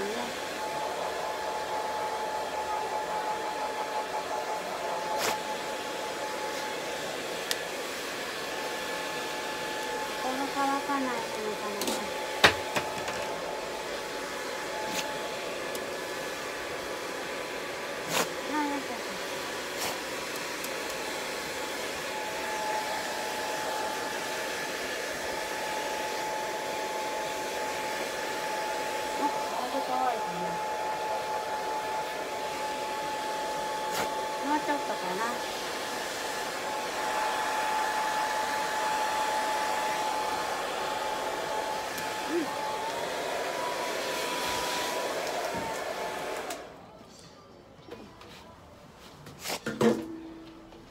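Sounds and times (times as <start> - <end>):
hair dryer blowing: 0.0 - 46.8.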